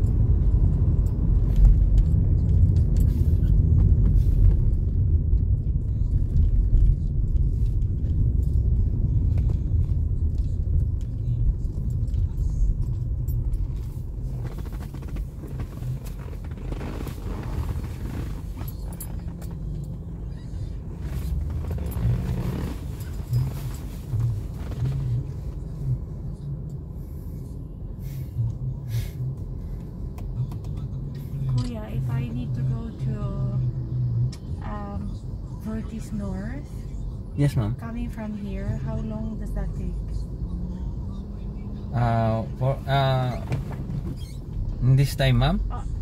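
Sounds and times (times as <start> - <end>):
car interior engine and road noise: 0.0 - 46.0.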